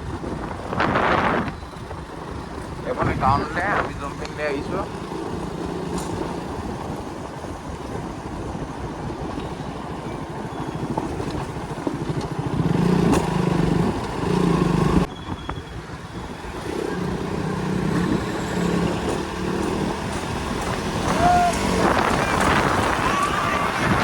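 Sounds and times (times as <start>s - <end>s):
motorcycle engine running: 0.0s - 15.1s, 16.3s - 24.0s
road and wind noise: 0.0s - 24.0s.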